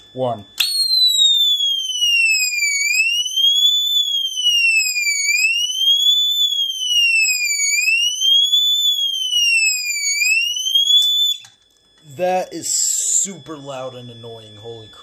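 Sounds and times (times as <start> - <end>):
fire alarm siren wailing: 0.0 - 15.0.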